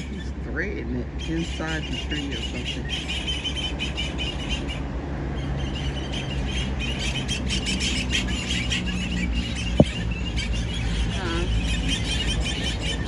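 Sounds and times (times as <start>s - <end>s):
birds chirping and squealing: 0.0s - 13.0s
steady low rumble: 0.0s - 13.0s.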